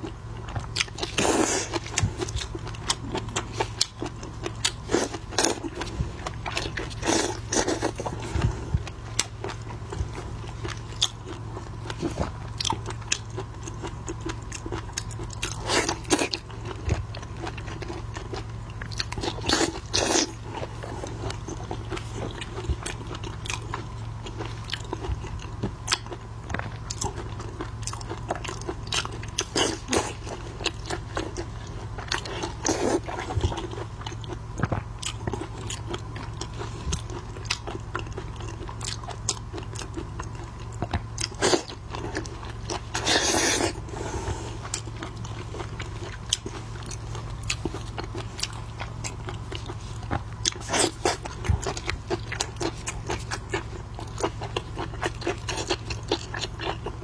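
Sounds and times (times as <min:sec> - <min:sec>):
crunching and chewing shellfish: 0:00.0 - 0:57.0.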